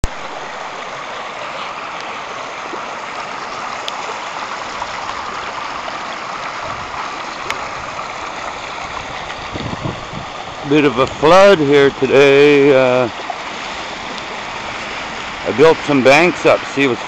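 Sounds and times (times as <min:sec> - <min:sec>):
water rushing along channel: 0:00.0 - 0:17.0.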